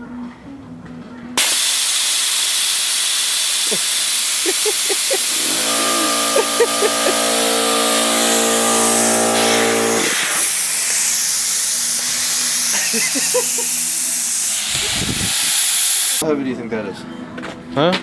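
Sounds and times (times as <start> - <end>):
constant hiss: 1.4 - 16.2
motor humming: 1.4 - 16.2.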